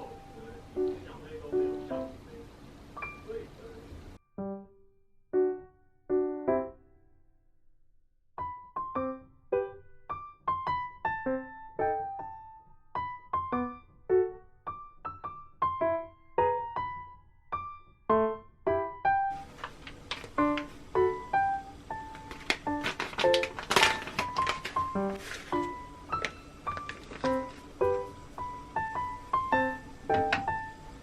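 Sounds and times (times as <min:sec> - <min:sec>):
piano music: 0:00.0 - 0:07.2, 0:08.4 - 0:31.0.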